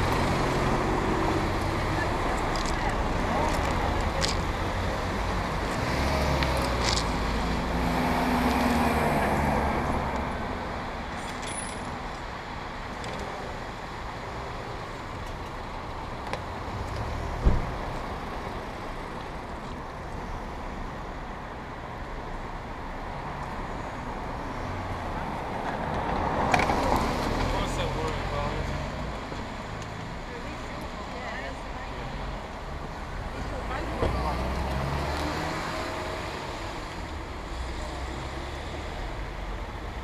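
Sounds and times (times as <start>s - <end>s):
street traffic noise: 0.0s - 40.0s.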